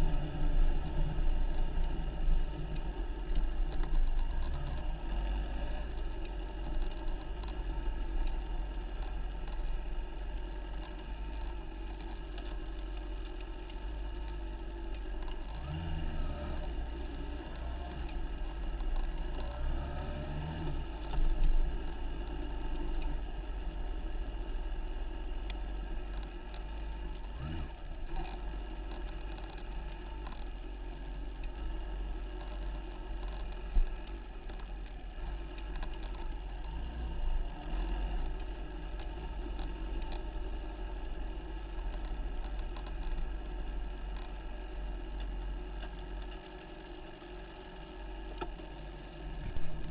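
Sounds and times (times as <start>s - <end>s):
motorbike engine running: 0.0s - 49.9s.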